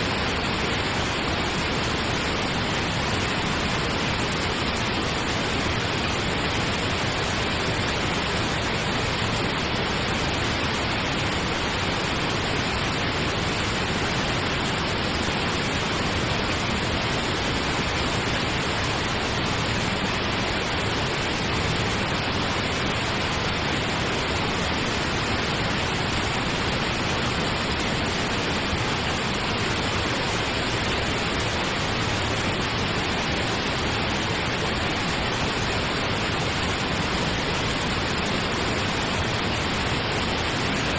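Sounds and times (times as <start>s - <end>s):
pink noise hiss: 0.0s - 40.9s.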